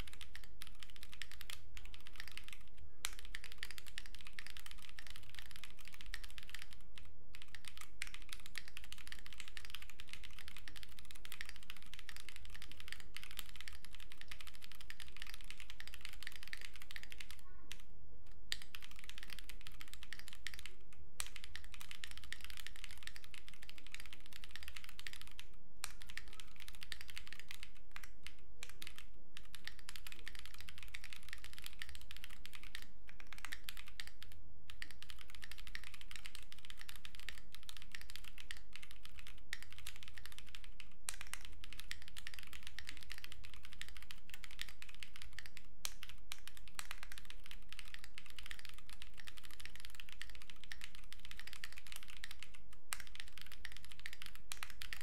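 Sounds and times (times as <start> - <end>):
typing on mechanical keyboard: 0.0 - 17.8, 18.5 - 55.0.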